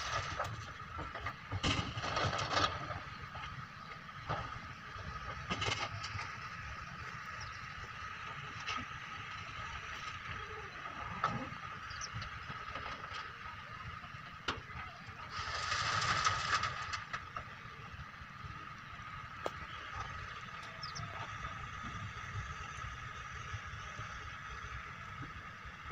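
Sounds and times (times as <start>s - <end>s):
excavator engine running: 0.0s - 25.9s.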